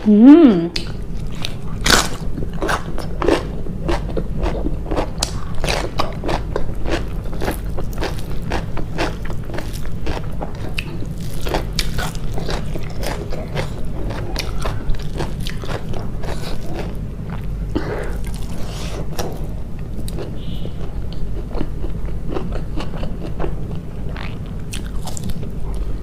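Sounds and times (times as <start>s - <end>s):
steady low hum: 0.0s - 26.0s
chewing and crunching food: 0.8s - 26.0s.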